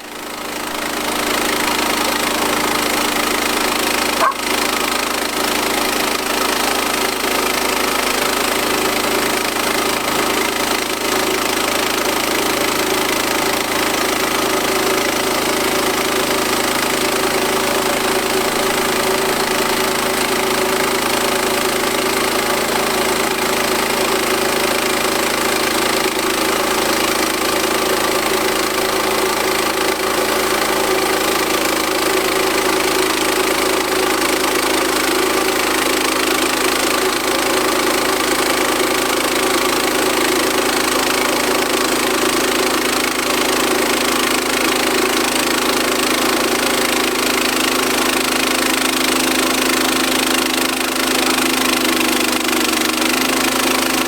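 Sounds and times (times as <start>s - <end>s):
bandsaw mill running: 0.0s - 54.0s.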